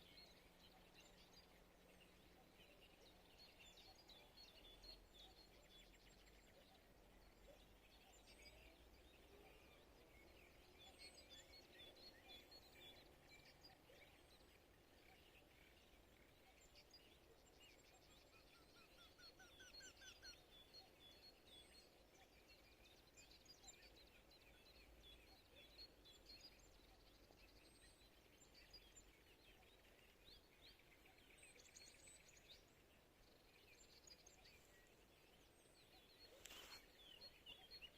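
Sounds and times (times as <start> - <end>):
songbirds chirping and singing: 0.0 - 37.9.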